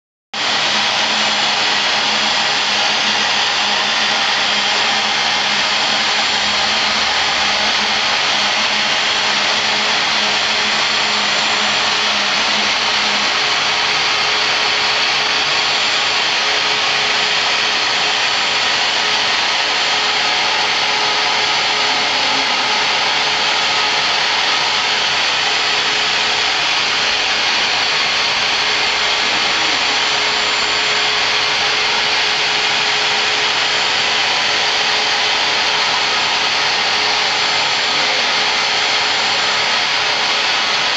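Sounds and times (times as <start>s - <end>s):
dust collector suction rushing: 0.4s - 40.9s
router spindle cutting foam: 0.4s - 40.9s.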